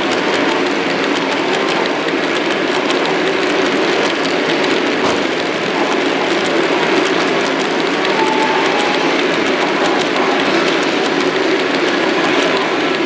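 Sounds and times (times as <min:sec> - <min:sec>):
model train running: 0:00.0 - 0:13.0
small irregular clicks: 0:00.0 - 0:13.0.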